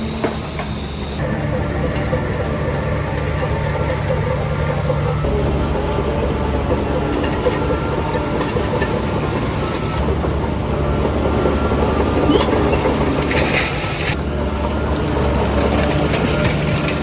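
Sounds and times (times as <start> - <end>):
bulldozer diesel engine running: 0.0 - 17.0
steel tracks clattering: 0.0 - 17.0.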